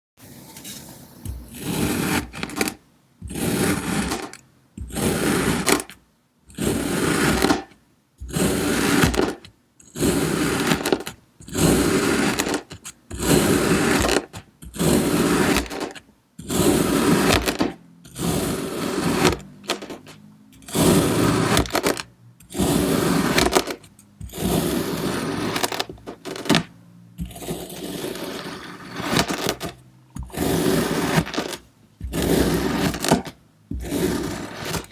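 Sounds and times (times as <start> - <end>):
blade slicing kinetic sand: 0.3 - 34.9.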